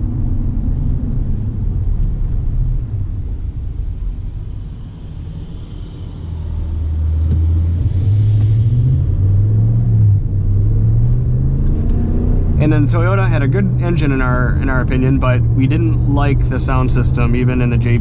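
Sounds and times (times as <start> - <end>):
low road rumble: 0.0 - 18.0
truck engine running: 0.0 - 18.0.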